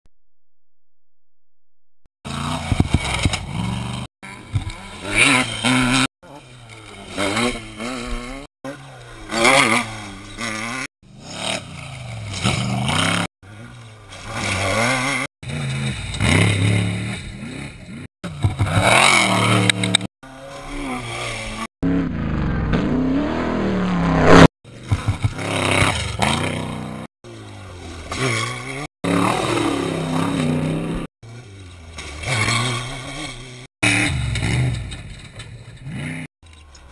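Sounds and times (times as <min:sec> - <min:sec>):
off-road trucks passing at full throttle: 0:02.3 - 0:36.9.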